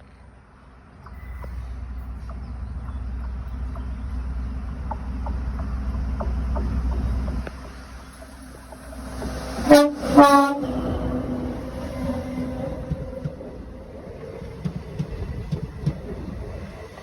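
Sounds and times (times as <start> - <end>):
train rumbling: 0.2 - 17.0.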